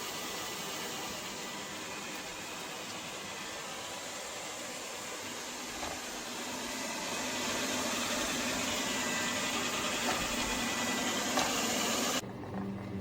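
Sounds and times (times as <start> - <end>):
robot vacuum cleaner whirring: 0.0 - 12.2.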